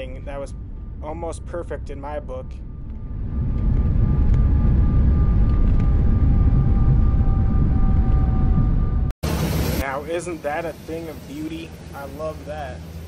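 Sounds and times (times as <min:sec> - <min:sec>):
faint jet engine whine: 0:00.0 - 0:13.0
jet engines and wheels rumbling: 0:00.0 - 0:13.0.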